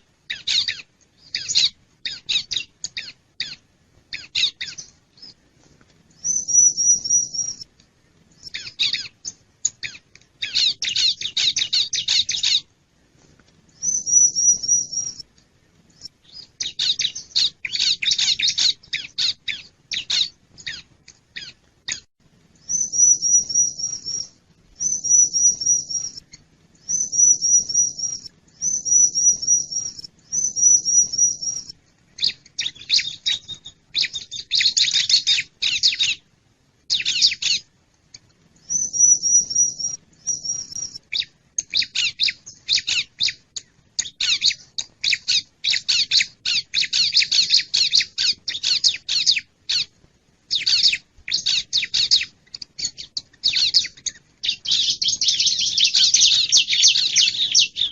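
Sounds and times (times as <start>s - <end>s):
bird song trilled phrases: 6.2s - 7.7s, 8.4s - 12.7s, 13.8s - 15.2s, 16.0s - 36.2s, 36.9s - 37.7s, 38.6s - 49.9s, 50.5s - 57.9s.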